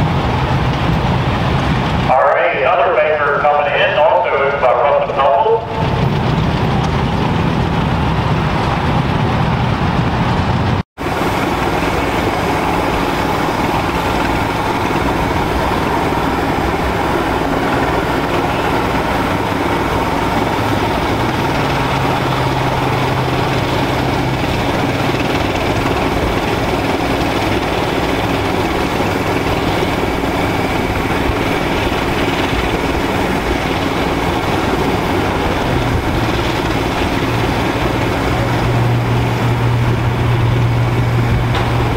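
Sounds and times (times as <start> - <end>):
steam engines humming and hissing: 0.0 - 41.9.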